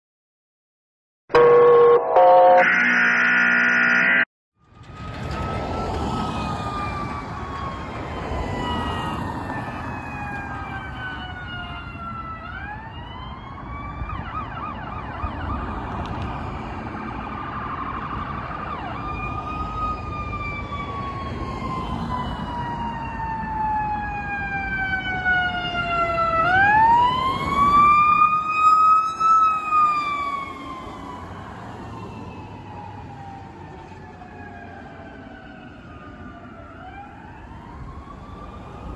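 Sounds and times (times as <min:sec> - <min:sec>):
ambulance siren wailing: 0:01.3 - 0:15.8, 0:16.9 - 0:38.9
traffic noise: 0:04.6 - 0:38.9.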